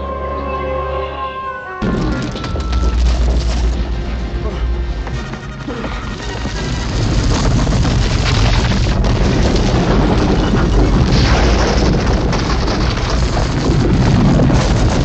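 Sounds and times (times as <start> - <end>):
rolling boulder rumble: 1.8 - 15.0.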